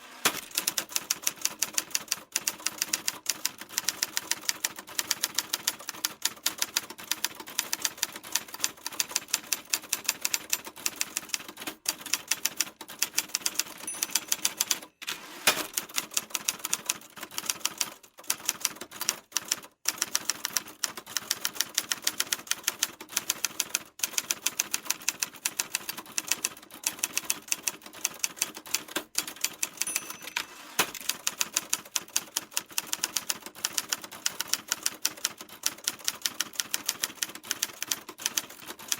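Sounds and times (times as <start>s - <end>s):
typewriter keys clacking: 0.2s - 38.9s.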